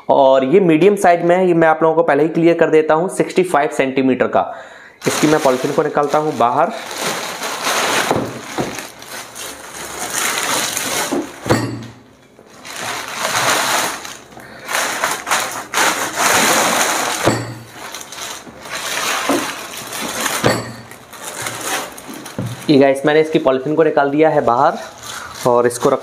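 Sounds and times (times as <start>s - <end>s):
plastic bag crinkling: 5.0s - 26.0s.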